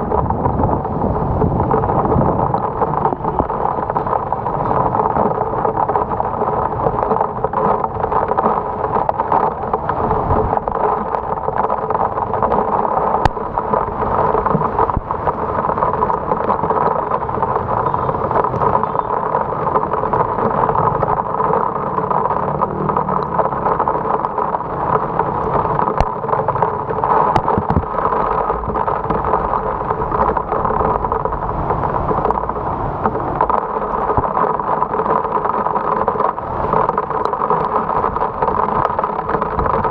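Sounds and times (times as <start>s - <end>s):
heavy rain: 0.0s - 39.9s
traffic and road noise: 0.0s - 39.9s.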